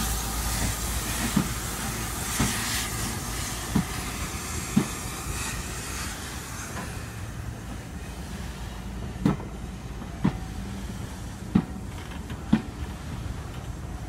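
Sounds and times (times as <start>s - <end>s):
steady hiss of steam: 0.0s - 14.0s
train wheels thudding over rail joints: 0.0s - 14.0s.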